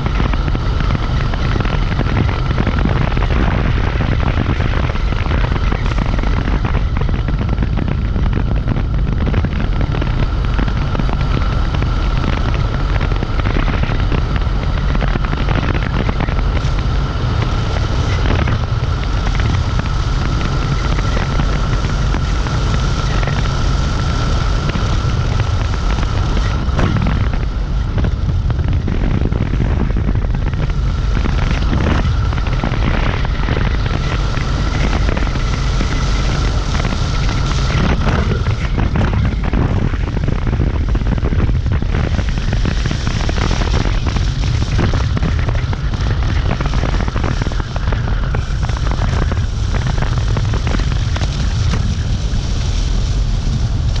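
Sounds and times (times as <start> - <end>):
high motor whine: 0.0 - 54.0
road noise: 0.0 - 54.0
wind buffeting microphone: 0.0 - 54.0.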